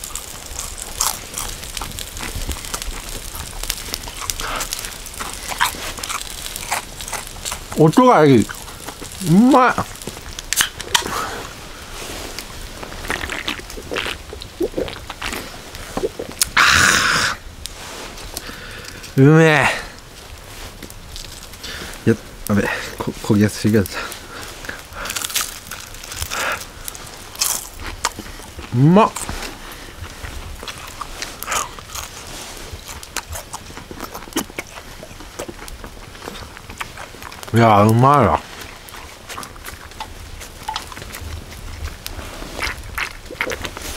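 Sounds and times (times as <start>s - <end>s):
person chewing crispy food: 0.0s - 43.9s.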